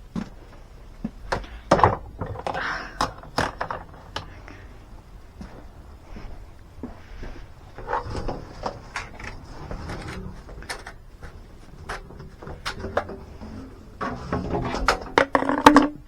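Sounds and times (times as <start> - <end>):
objects knocking and clattering: 0.0 - 5.8, 7.8 - 16.0.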